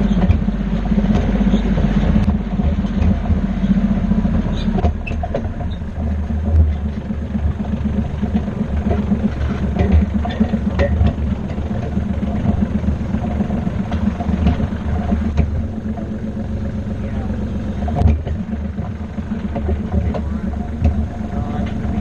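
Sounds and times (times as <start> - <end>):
tractor engine running: 0.0 - 22.0
wagon rattling and knocking: 0.0 - 22.0.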